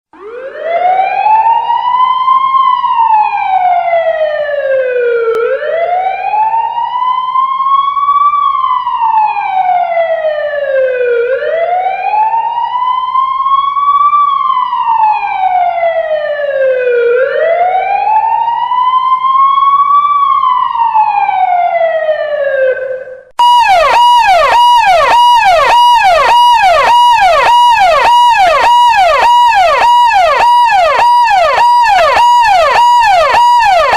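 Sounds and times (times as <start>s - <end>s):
police siren wailing and yelping: 0.2s - 33.9s.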